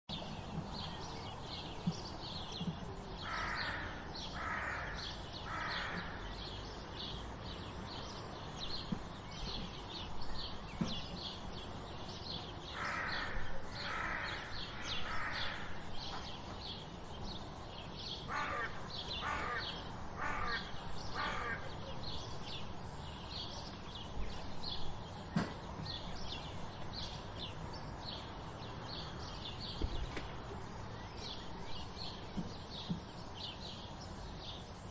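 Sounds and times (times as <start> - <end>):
sparrows chirping: 0.1 - 34.9.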